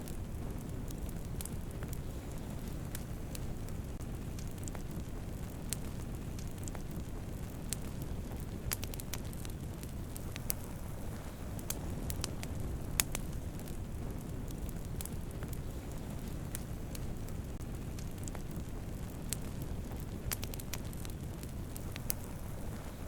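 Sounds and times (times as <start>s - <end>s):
campfire flames rumbling: 0.0s - 23.0s
fire crackling and popping: 0.0s - 23.0s.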